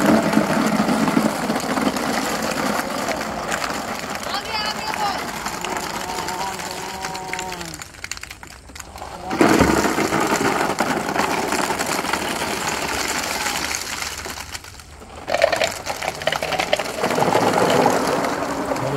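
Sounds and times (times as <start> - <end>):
plastic balls pouring and clattering: 0.0 - 18.9.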